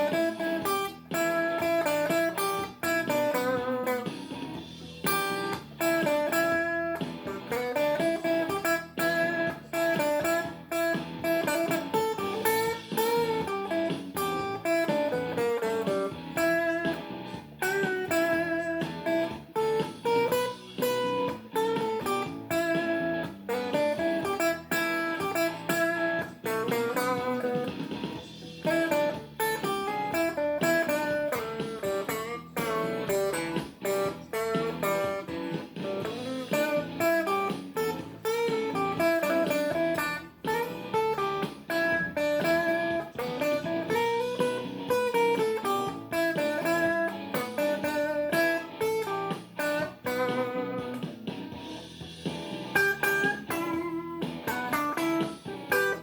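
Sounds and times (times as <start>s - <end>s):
blues guitar playing: 0.0s - 56.0s.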